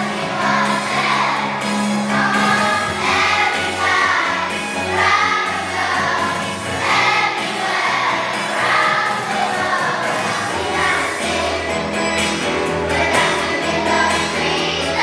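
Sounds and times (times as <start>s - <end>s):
choir singing with instruments: 0.0s - 15.0s.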